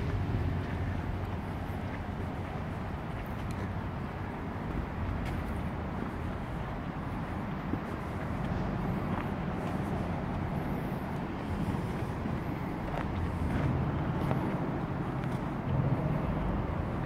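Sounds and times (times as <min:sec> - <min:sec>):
footsteps on dirt path: 0:00.0 - 0:17.0
low rumble of road traffic: 0:00.0 - 0:17.0.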